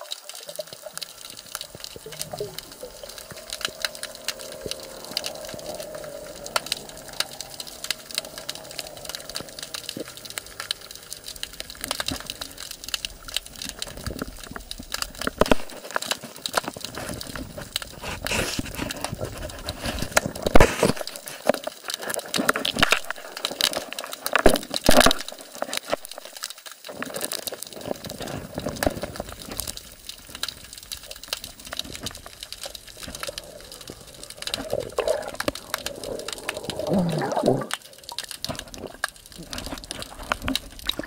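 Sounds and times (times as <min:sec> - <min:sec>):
muffled underwater water wash: 0:00.0 - 0:41.0.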